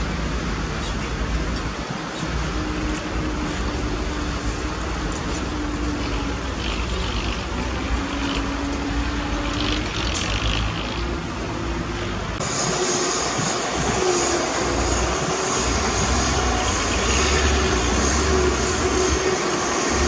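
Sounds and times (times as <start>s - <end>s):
heavy machinery engine rumbling: 0.0s - 20.0s.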